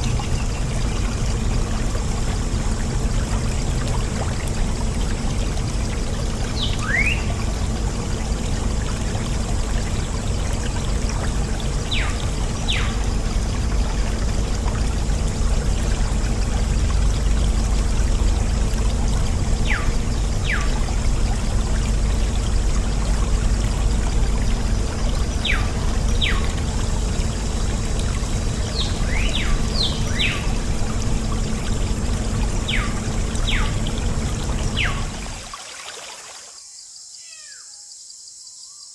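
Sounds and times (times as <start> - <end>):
water pouring in a stream: 0.0 - 36.6.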